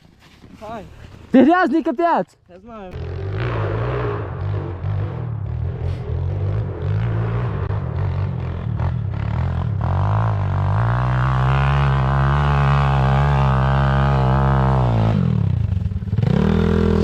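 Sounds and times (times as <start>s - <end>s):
dirt bike engine revving: 2.9s - 17.0s.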